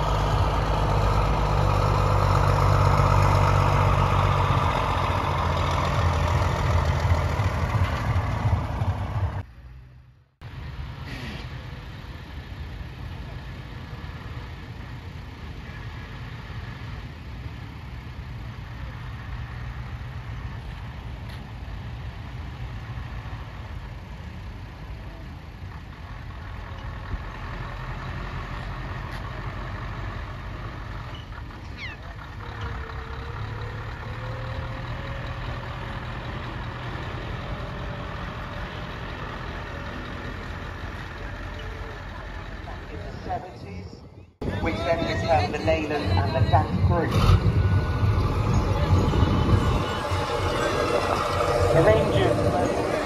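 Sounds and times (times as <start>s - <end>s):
diesel truck engine rumbling: 0.0s - 53.0s.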